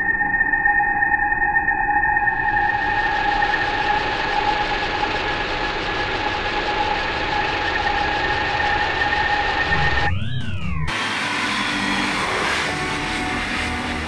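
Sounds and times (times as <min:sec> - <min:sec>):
rumbling drone: 0:02.7 - 0:14.0.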